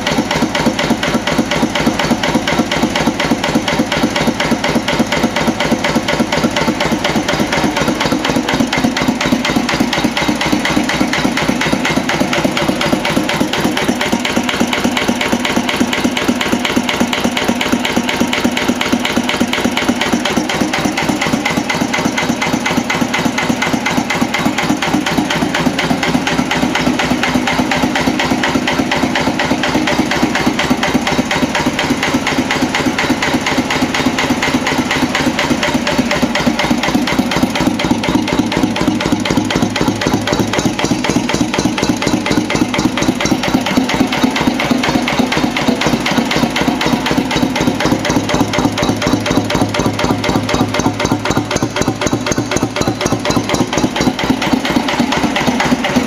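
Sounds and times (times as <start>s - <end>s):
stationary diesel engine knocking: 0.0s - 56.0s.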